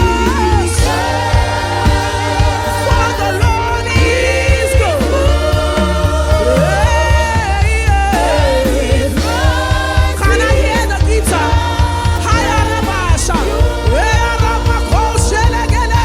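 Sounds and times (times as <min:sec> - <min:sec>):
band with bass and drums: 0:00.0 - 0:16.0
voices singing worship music: 0:00.0 - 0:16.0.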